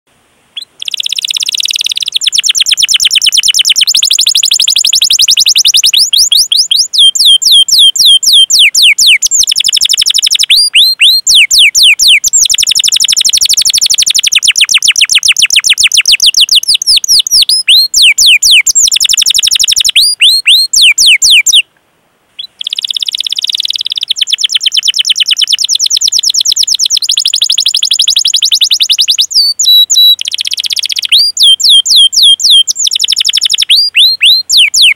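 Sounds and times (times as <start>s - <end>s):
canary singing trills: 0.6s - 21.7s, 22.4s - 34.9s.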